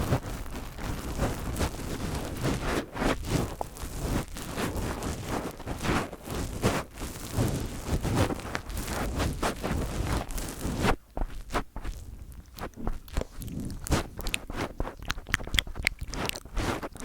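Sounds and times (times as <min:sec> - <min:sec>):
fingers rubbing on microphone: 0:00.0 - 0:17.0.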